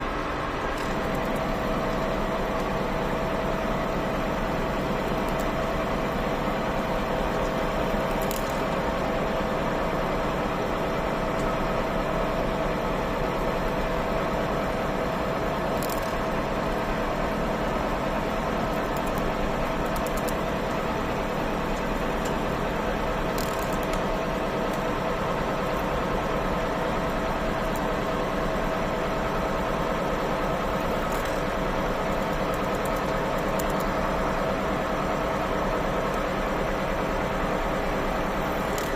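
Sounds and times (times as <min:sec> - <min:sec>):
milling spindle whine: 0:00.0 - 0:38.9.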